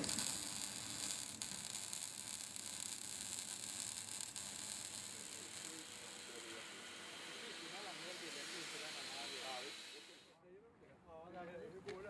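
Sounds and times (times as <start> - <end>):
welding arc pop: 0.0 - 10.0
welding arc crackling hiss: 0.0 - 10.3.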